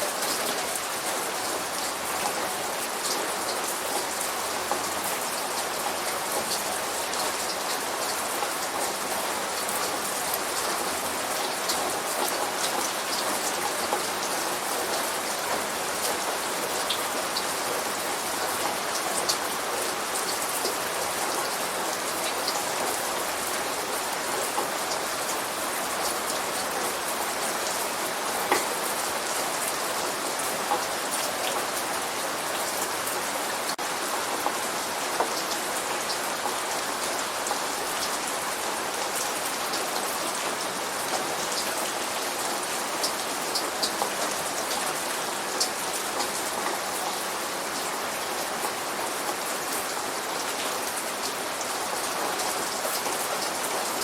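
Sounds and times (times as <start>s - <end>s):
light rain falling: 0.0s - 54.0s
raindrops ticking on a surface: 0.0s - 54.0s.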